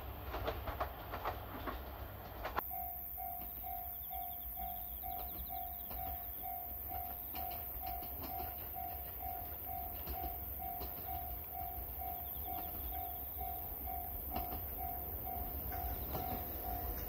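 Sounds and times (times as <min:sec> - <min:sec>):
level crossing warning bell: 0:02.6 - 0:17.0.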